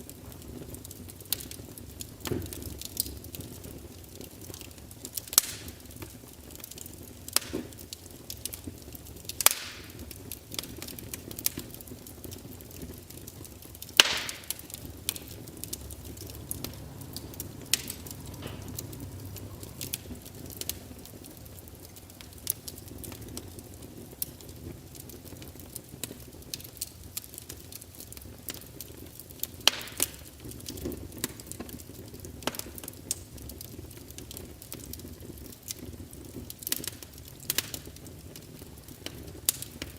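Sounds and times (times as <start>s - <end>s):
loud fire cracks: 0.0s - 39.9s
wood fire crackling: 0.0s - 39.9s.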